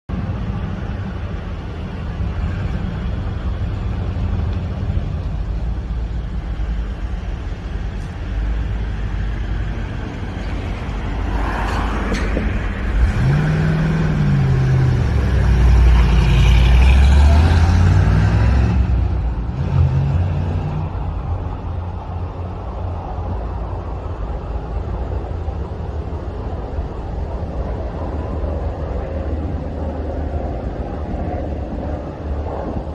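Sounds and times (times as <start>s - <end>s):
pickup truck engine rumbling: 0.1s - 32.9s.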